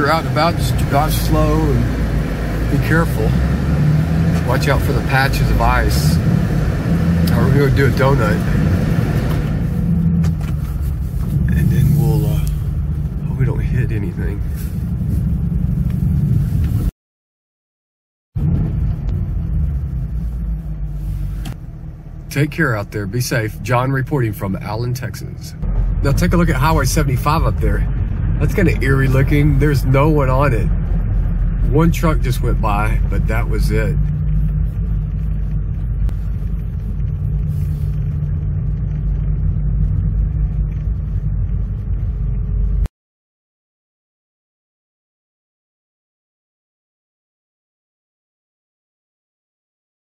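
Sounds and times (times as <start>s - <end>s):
car driving over snow: 0.0s - 16.9s, 18.4s - 42.9s.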